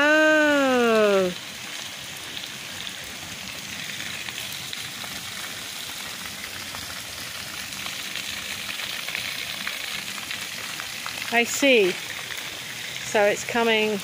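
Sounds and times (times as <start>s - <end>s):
rain falling on standing water: 0.0s - 14.0s.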